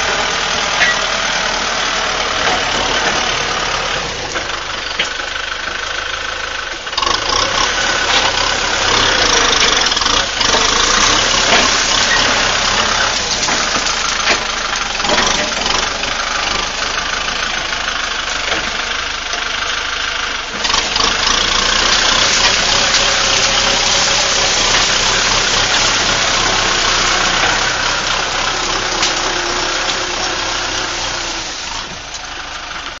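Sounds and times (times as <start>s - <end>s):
tractor engine running hard: 0.0s - 33.0s.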